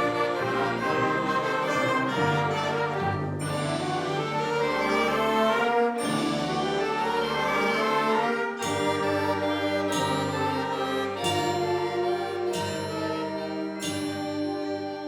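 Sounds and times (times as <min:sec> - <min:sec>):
school band playing brass chords: 0:00.0 - 0:15.0.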